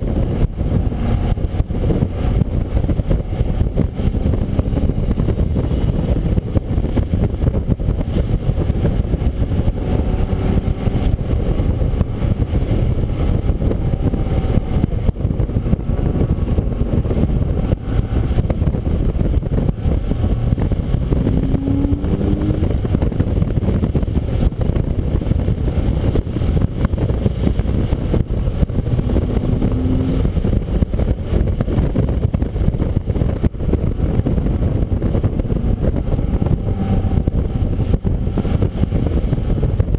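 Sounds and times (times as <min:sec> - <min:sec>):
muffled car rumble onboard: 0:00.0 - 0:39.9.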